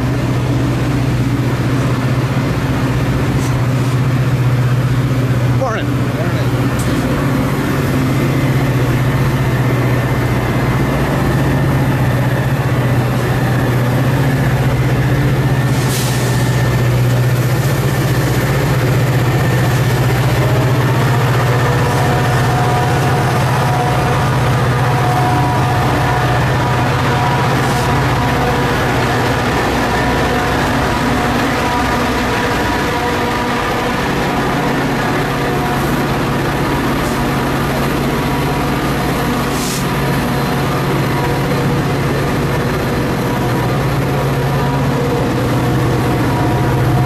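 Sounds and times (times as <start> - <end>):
diesel locomotive humming: 0.0 - 47.0.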